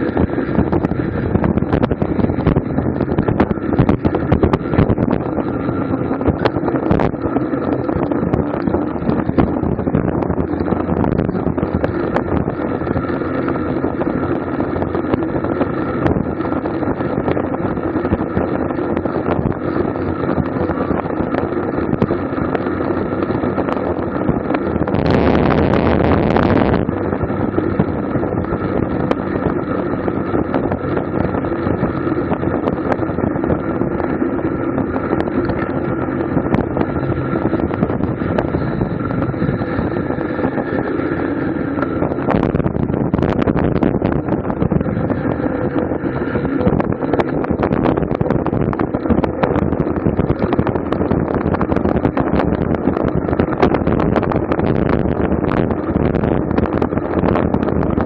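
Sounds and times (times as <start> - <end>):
bicycle tyre and drivetrain noise: 0.0 - 58.0
wind rushing over microphone: 0.0 - 58.0.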